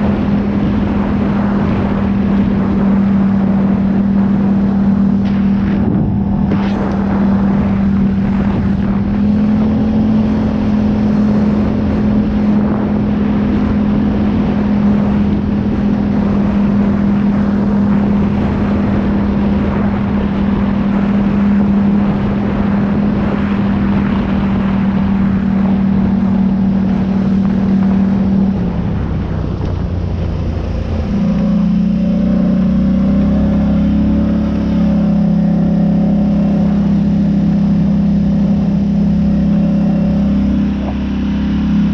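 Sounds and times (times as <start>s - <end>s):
vehicle engine running under load: 0.0s - 41.9s.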